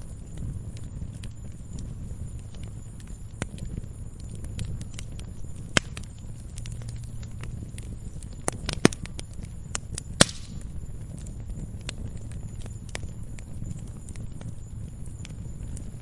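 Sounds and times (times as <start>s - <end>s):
fireplace fire crackling: 0.0s - 16.0s
sharp pops of fire: 0.0s - 16.0s.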